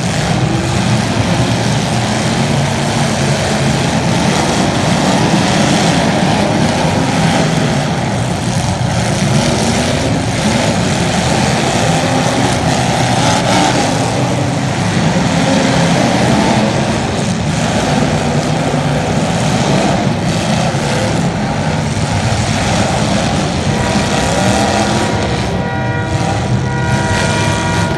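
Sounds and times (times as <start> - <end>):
racing engines running: 0.0 - 27.9.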